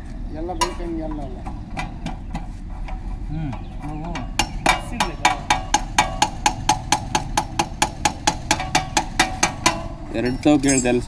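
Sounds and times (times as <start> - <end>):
rapid metallic knocks: 0.6 - 11.0.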